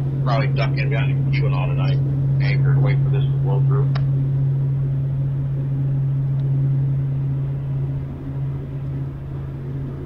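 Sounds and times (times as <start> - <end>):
ship diesel engines droning: 0.0 - 10.0.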